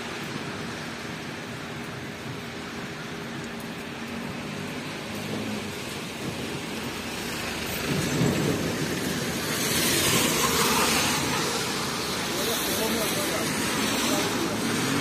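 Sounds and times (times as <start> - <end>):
rain on wet street: 0.0 - 15.0.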